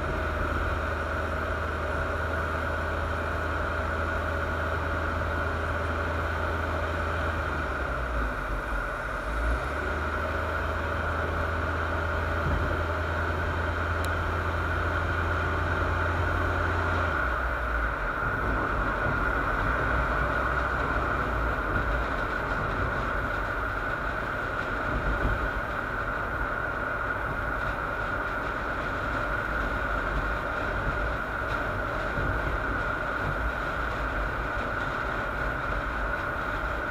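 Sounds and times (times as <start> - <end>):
muffled car road and engine noise: 0.0 - 36.9.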